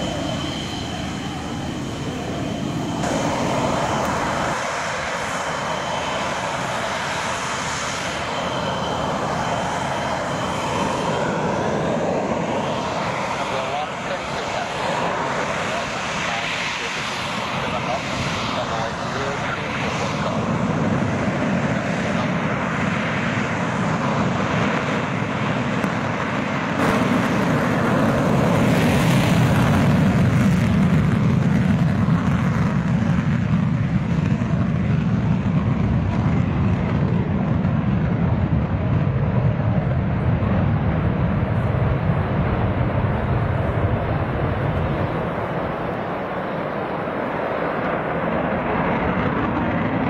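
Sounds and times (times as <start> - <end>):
jet engine roaring on takeoff: 0.0 - 50.0.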